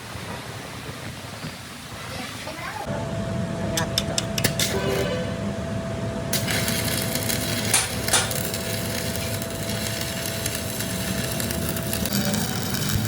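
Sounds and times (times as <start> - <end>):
crackling metalworking noise: 0.0 - 13.0.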